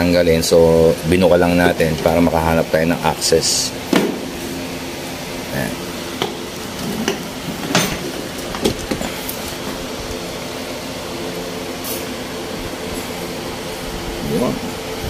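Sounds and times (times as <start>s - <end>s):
mechanical hum with tones: 0.0s - 15.0s.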